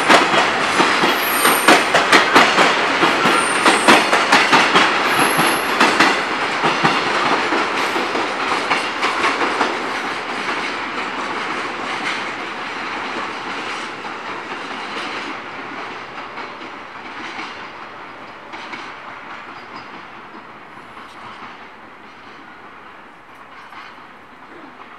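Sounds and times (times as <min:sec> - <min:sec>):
train wheels clattering over rail joints: 0:00.0 - 0:24.9.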